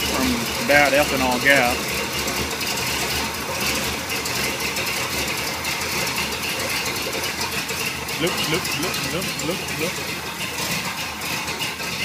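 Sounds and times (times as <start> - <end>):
engine idling with ticking: 0.0 - 12.0.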